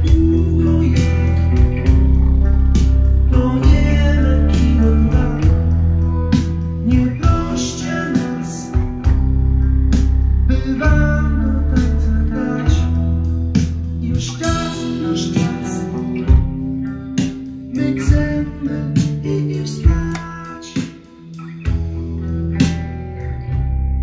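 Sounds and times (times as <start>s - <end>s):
music with guitar bass and drums: 0.0s - 24.0s.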